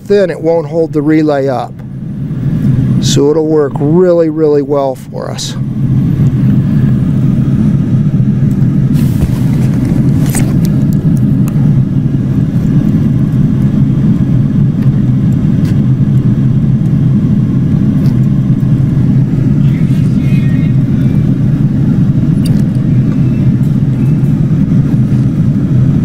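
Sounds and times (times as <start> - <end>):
low mechanical drone: 0.0 - 26.0.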